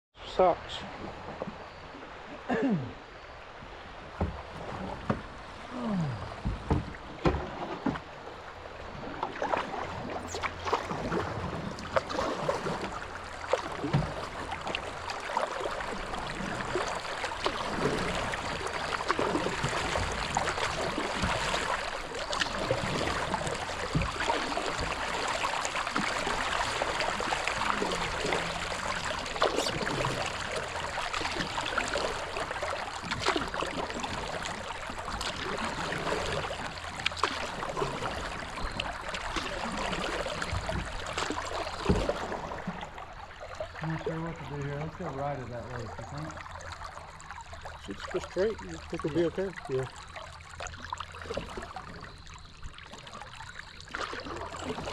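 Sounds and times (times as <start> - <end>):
river water rushing: 3.4 - 51.4
splashes and knocks: 4.0 - 44.2, 44.8 - 54.9.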